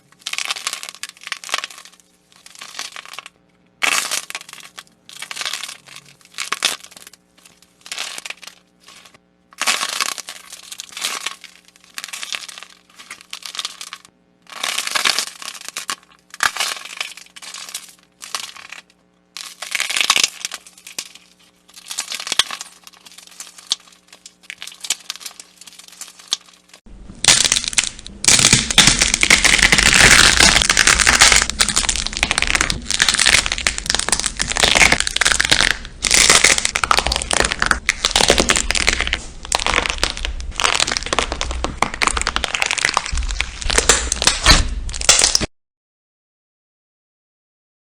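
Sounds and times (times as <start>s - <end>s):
slime crackling when squeezed: 0.0s - 45.5s.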